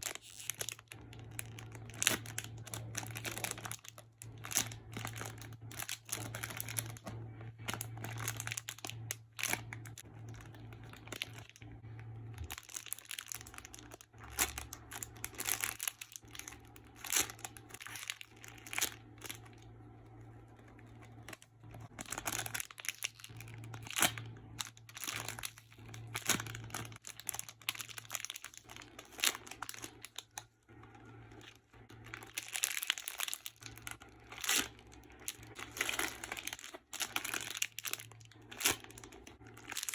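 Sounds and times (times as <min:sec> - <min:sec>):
plastic crinkling and rustling: 0:00.0 - 0:39.9
steady low hum: 0:00.0 - 0:39.9.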